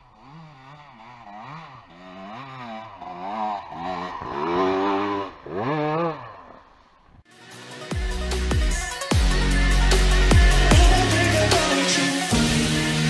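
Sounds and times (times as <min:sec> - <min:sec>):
dirt bike engine revving: 0:00.0 - 0:07.2, 0:09.2 - 0:13.0.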